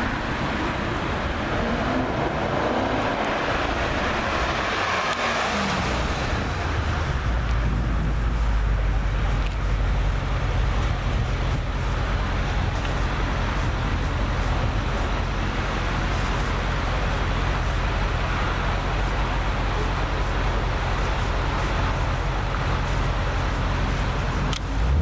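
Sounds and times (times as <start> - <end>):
car engine idling: 0.0 - 25.0
city traffic noise: 0.0 - 25.0.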